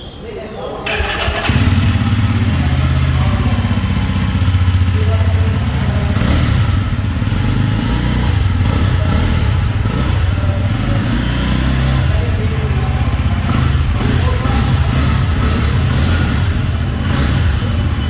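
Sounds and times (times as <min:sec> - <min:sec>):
motorcycle engine exhaust note: 0:00.9 - 0:18.0.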